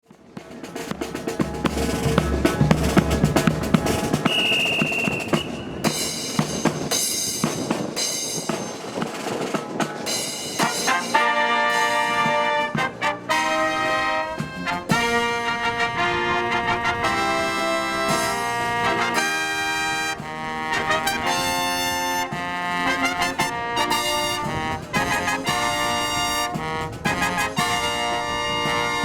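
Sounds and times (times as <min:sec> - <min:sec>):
marching drums: 0:00.0 - 0:29.0
trumpets and trombones: 0:00.0 - 0:29.0.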